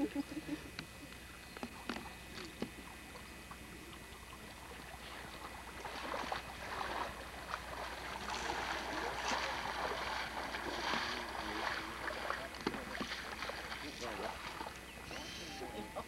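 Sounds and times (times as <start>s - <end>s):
lake water splashing: 1.2s - 16.0s.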